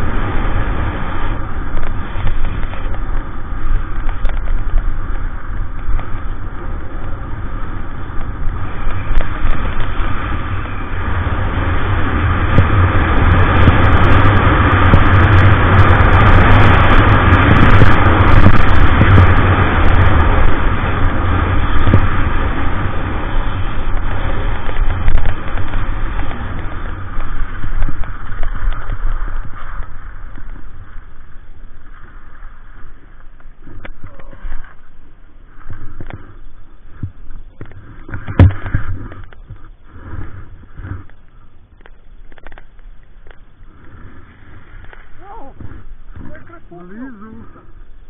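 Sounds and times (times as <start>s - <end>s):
skis hissing over snow: 0.0s - 41.5s, 43.6s - 47.7s
wind rushing over microphone: 0.0s - 48.0s.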